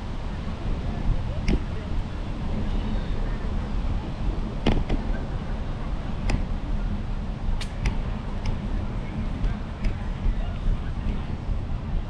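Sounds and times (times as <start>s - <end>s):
bicycle rolling rumble: 0.0s - 12.0s
wind on microphone: 0.0s - 12.0s.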